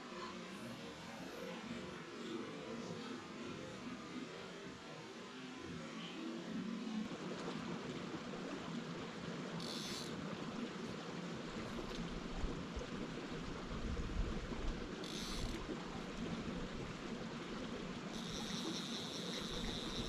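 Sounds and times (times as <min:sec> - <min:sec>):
creek running water: 0:00.0 - 0:20.0.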